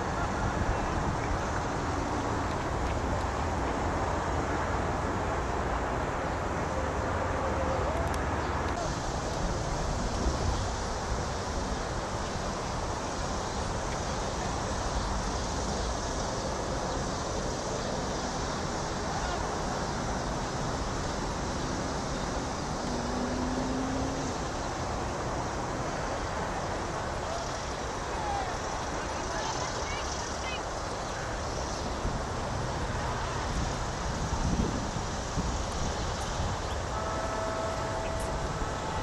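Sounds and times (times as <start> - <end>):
distant road traffic: 0.0 - 39.0.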